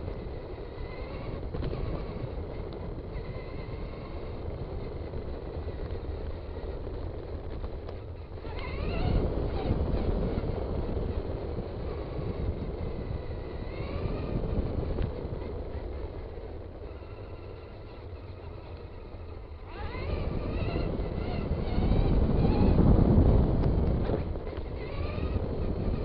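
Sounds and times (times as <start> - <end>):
electric motor whine: 0.0 - 26.0
toy car rumbling over ground: 0.0 - 26.0.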